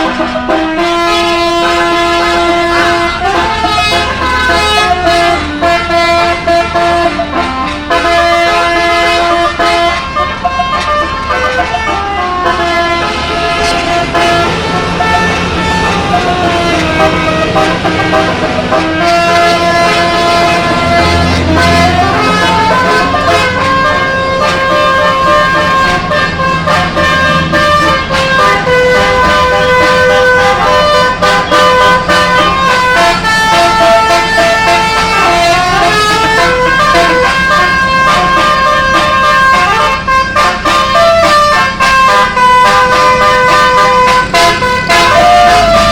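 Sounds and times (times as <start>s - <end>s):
multi-trumpet vehicle horn tune: 0.0s - 45.9s.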